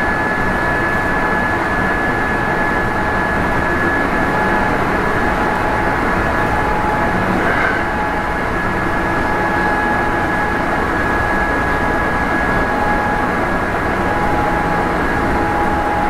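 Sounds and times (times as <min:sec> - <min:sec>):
traction motor whine: 0:00.0 - 0:16.0.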